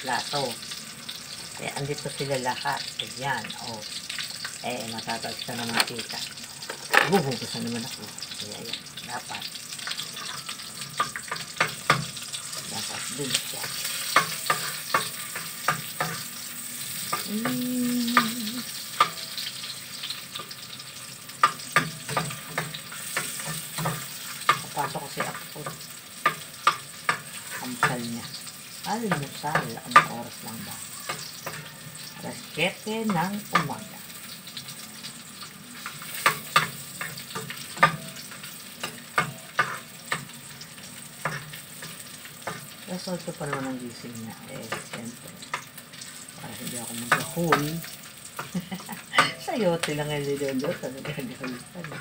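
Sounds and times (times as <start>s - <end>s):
garlic and onion sizzling in oil: 0.0s - 52.0s
utensil clicking against pan: 5.4s - 43.8s, 44.6s - 52.0s.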